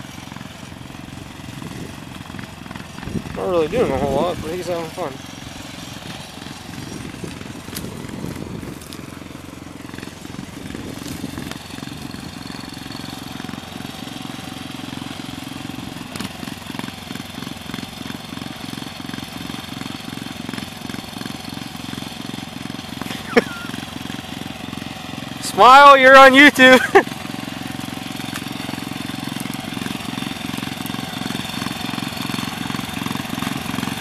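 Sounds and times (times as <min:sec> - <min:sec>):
small tractor engine running: 0:00.0 - 0:34.0.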